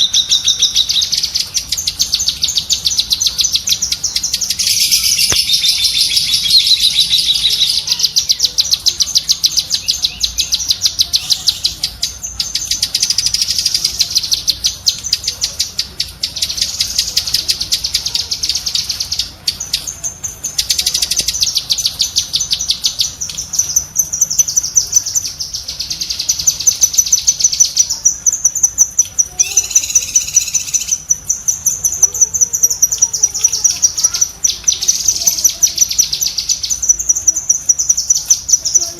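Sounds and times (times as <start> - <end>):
songbird rapid chattering call: 0.0 - 38.9.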